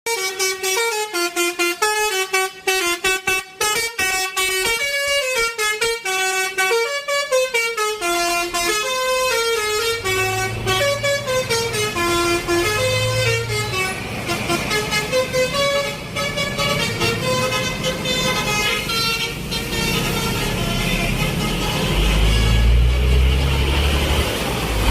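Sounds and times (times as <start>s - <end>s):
bus musical horn playing a tune: 0.1s - 24.9s.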